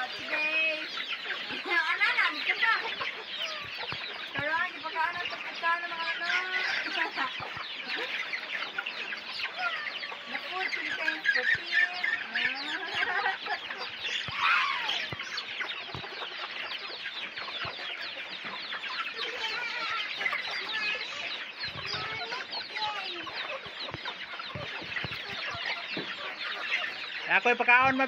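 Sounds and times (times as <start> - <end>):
chickens clucking: 0.0 - 28.0
chicks peeping: 0.0 - 28.0.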